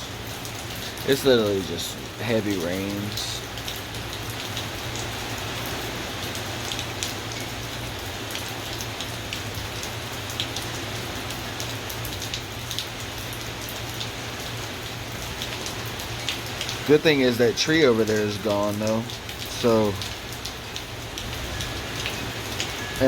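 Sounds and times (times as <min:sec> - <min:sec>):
heavy rain pouring: 0:00.0 - 0:23.0
raindrops ticking close by: 0:00.0 - 0:23.0.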